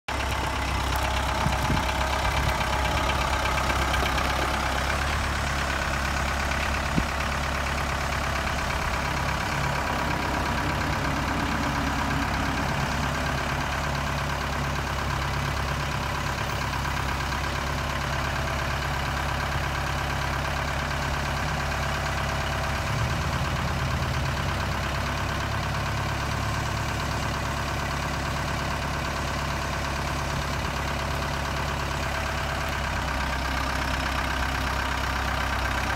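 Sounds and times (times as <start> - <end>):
diesel tractor engine idling: 0.0 - 35.9.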